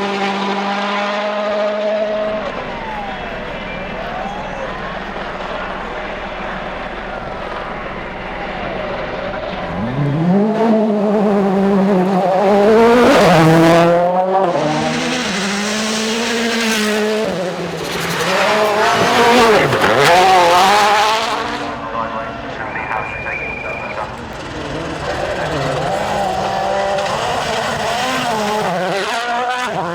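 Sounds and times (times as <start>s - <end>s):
rally car accelerating: 0.0s - 29.9s.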